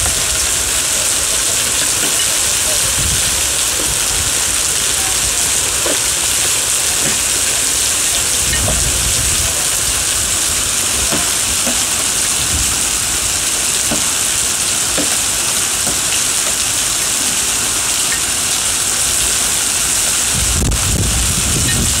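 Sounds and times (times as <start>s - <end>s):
hail ticking: 0.0s - 22.0s
heavy rain on paving: 0.0s - 22.0s.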